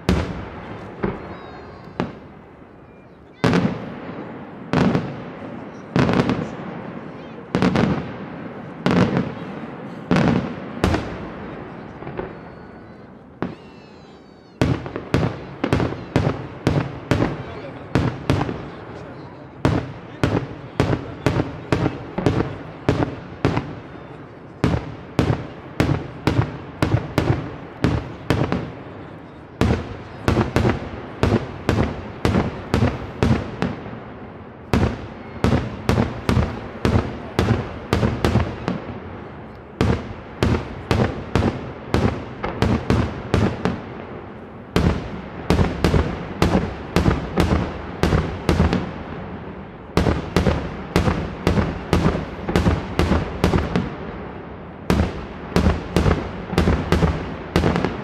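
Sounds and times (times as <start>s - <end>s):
fireworks bangs echoing: 0.0s - 58.0s.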